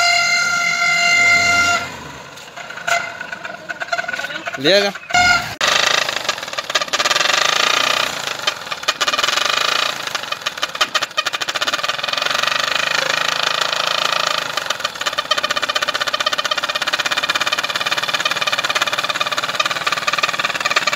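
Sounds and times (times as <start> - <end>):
motorcycle engine idling: 0.0 - 20.9
toy trumpet horns on exhaust: 0.0 - 20.9.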